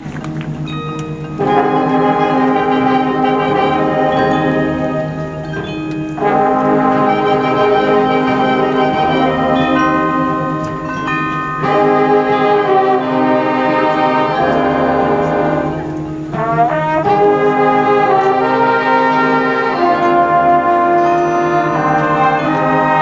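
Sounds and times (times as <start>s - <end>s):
marching band brass chords: 0.0s - 23.0s.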